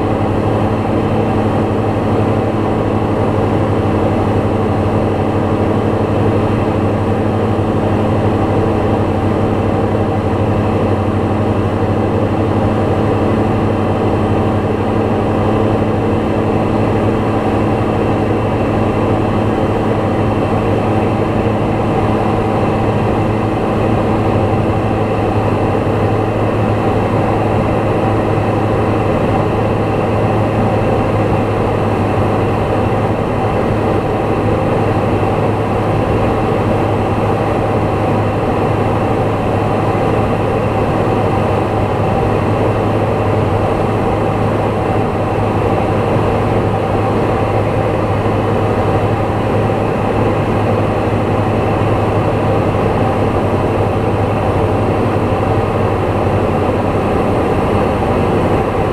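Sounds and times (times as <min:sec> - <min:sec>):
propeller plane engine droning: 0:00.0 - 0:58.9.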